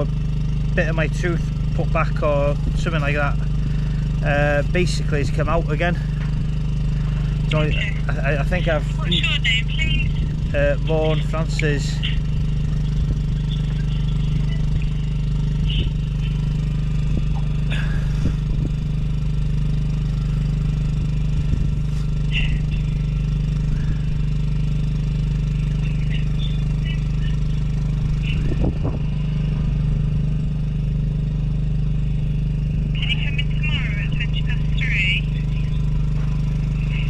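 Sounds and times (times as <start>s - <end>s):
engine droning: 0.0s - 37.0s.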